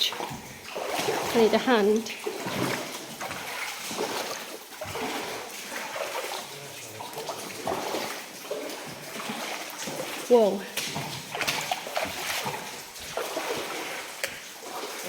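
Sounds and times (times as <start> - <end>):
boots splashing through water: 0.0 - 15.0.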